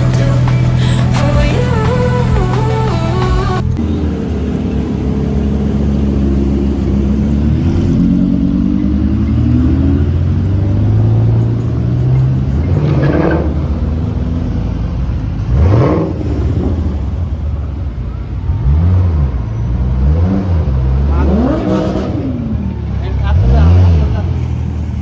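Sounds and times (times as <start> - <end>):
engine revving: 0.0 - 17.4, 18.4 - 25.0
car engines running: 0.0 - 25.0.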